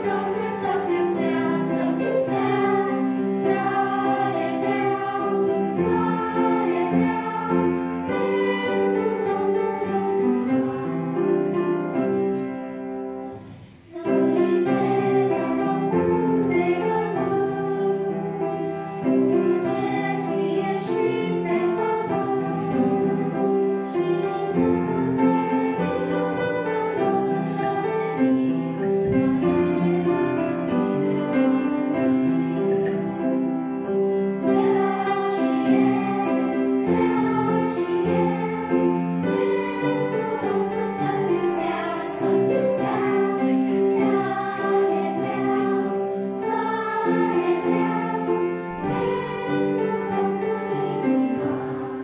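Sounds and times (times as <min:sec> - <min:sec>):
children's choir singing: 0:00.0 - 0:52.0
instrumental accompaniment: 0:00.0 - 0:52.0.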